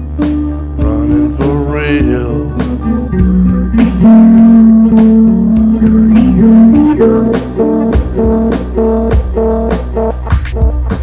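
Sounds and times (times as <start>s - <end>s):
bluesy electric guitar: 0.0s - 11.0s
steady drum beat: 0.7s - 11.0s.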